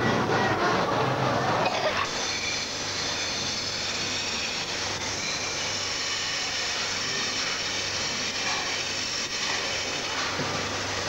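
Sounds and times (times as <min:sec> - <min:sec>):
dishwashing machine running: 0:00.0 - 0:11.0.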